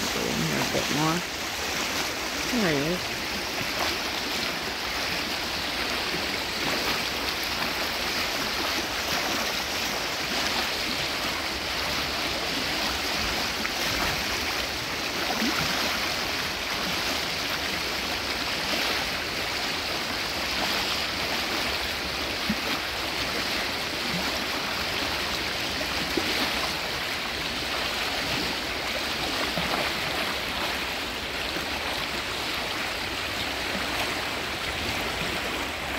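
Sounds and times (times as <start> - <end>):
flowing creek water: 0.0 - 35.9.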